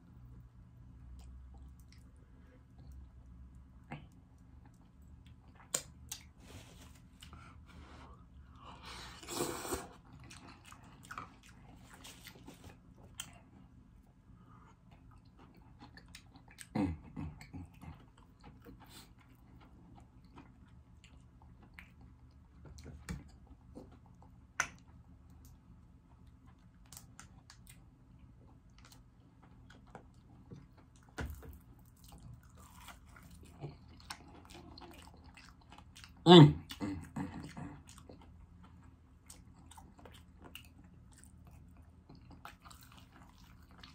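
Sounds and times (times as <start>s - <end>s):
person chewing fried chicken: 0.2s - 43.9s.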